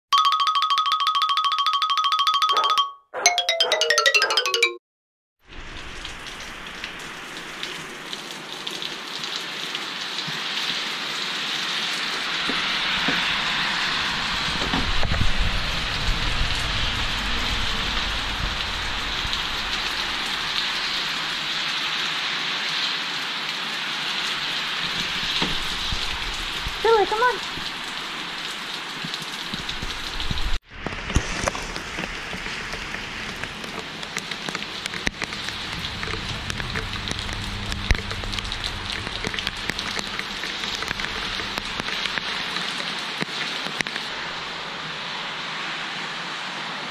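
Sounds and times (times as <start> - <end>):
sharp raindrops: 5.4 - 46.4
steady rain falling: 5.4 - 46.9.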